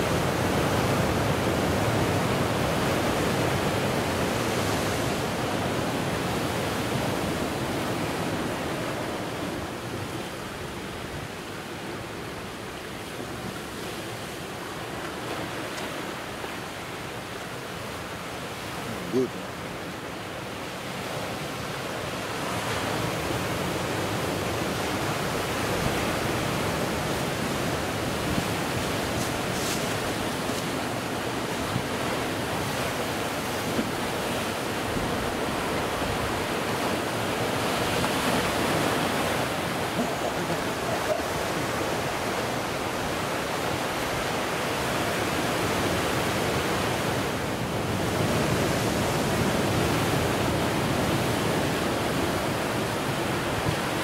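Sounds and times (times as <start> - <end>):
waves breaking on rocks: 0.0 - 54.0.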